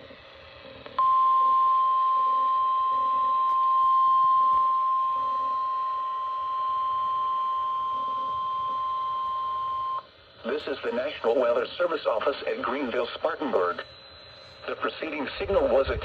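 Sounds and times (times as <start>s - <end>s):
steady high warning tone: 0.0s - 16.0s.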